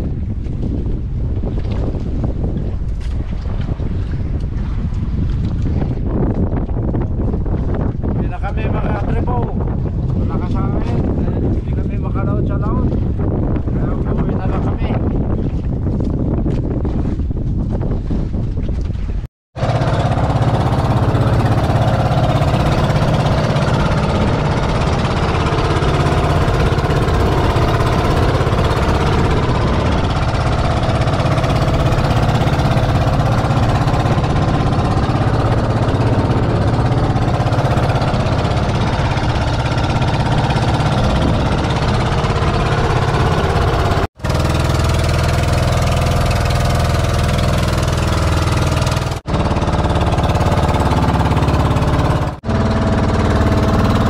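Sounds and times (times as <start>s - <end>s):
boat engine running: 0.0s - 54.0s
water rushing past hull: 0.0s - 54.0s.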